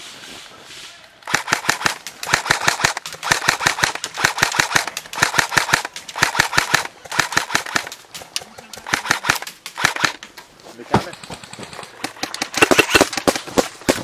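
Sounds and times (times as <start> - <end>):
airsoft gun automatic bursts: 1.3 - 10.2, 11.2 - 14.0.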